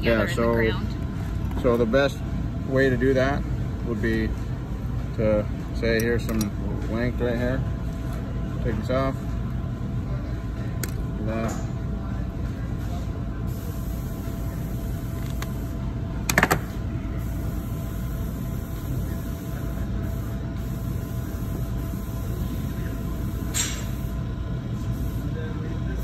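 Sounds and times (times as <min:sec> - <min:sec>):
workshop background hum: 0:00.0 - 0:26.0.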